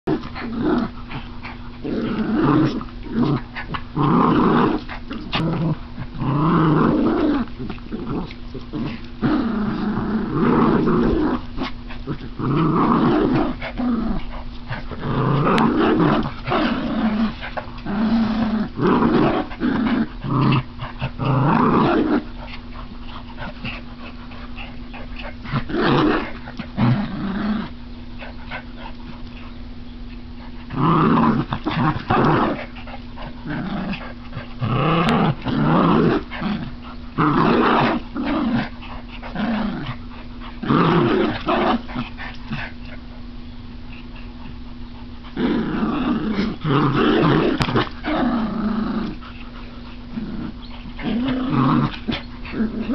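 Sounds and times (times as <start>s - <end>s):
small dogs growling in play: 0.0s - 52.9s.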